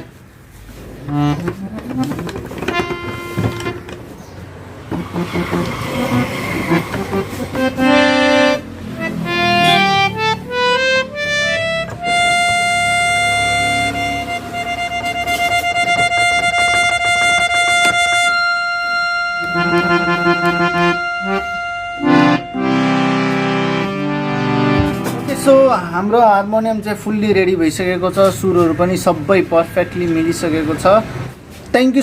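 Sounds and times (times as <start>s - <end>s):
harmonium playing: 0.0s - 26.5s.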